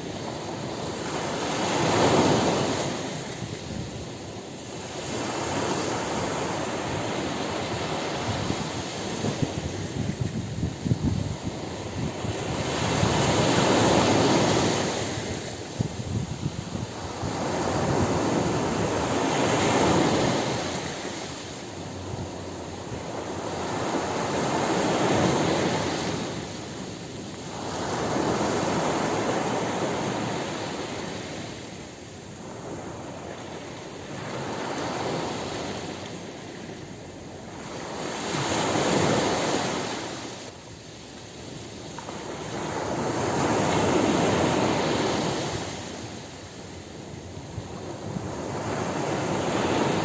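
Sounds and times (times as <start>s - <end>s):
ocean waves breaking on beach: 0.0s - 50.0s.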